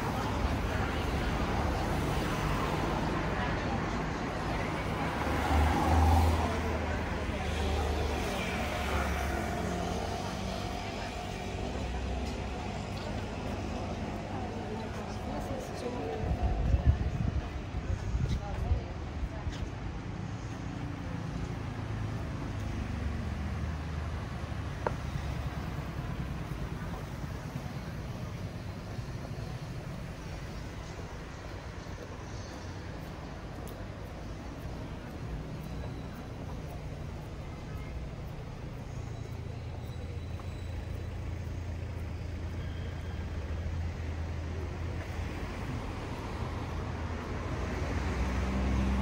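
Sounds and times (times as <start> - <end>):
traffic rumble: 0.0 - 49.0.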